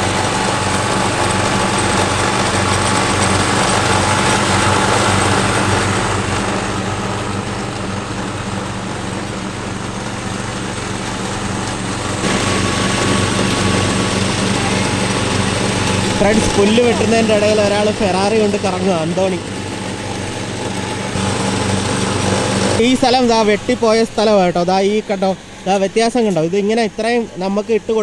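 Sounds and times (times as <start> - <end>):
lawn mower engine running: 0.0 - 28.0.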